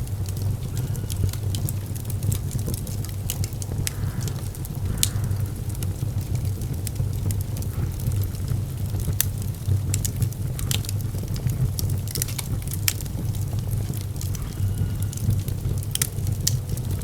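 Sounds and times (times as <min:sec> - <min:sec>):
low steady rumble: 0:00.0 - 0:16.5
fire crackling: 0:00.0 - 0:17.0
sharp fire pops: 0:00.1 - 0:14.5.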